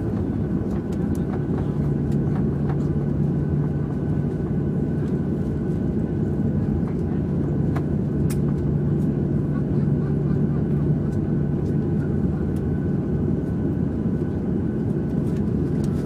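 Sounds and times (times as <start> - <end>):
airplane cabin engine hum: 0.0 - 16.0.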